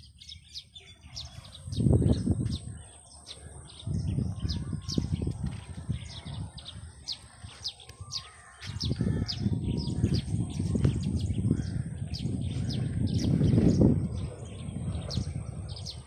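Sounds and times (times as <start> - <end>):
birds chirping: 0.0 - 16.0
low rumble on microphone: 0.0 - 16.0.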